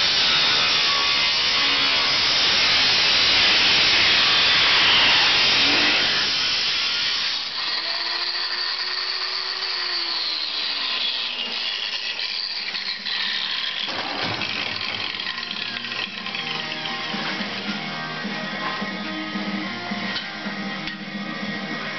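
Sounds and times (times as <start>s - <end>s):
angle grinder cutting steel: 0.0s - 21.9s
grinder whine: 0.0s - 21.9s.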